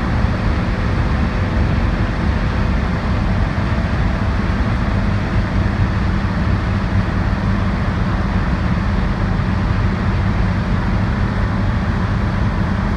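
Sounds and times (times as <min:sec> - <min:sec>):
road noise: 0:00.0 - 0:12.9.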